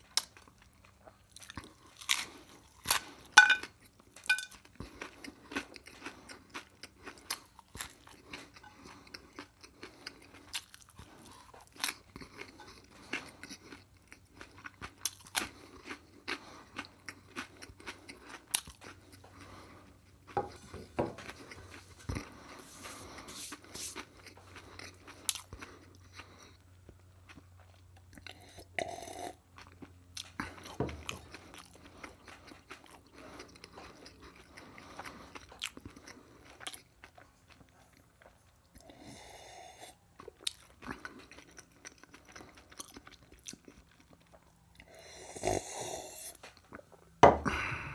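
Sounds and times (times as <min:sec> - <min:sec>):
chewing and crunching food: 0:00.0 - 0:47.8.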